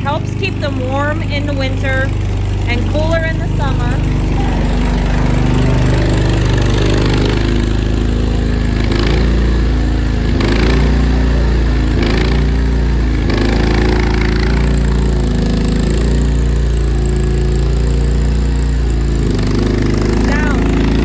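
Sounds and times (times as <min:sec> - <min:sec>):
skid steer engine running: 0:00.0 - 0:21.0.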